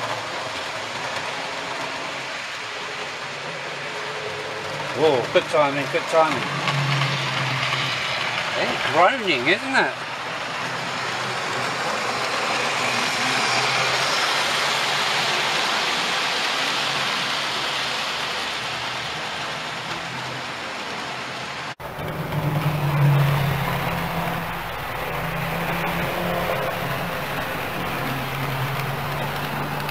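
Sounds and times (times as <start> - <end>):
model train running on track: 0.0 - 29.9.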